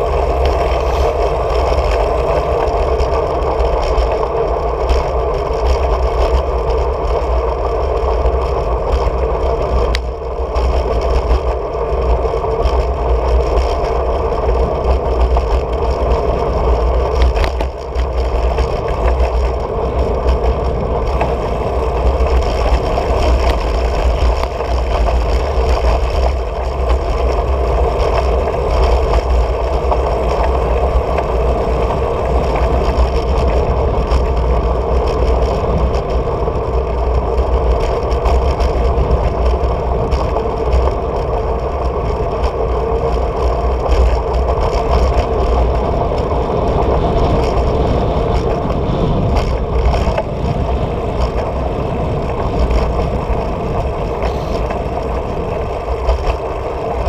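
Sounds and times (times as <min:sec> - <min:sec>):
bicycle tyres on asphalt: 0:00.0 - 0:57.0
wind rumble on camera: 0:00.0 - 0:57.0.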